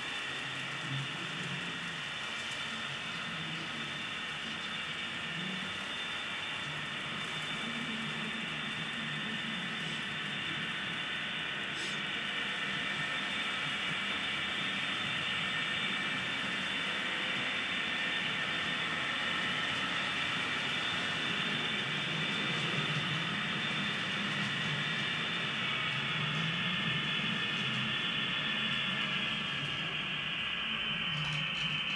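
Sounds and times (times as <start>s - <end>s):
model train whirring: 0.0s - 31.9s.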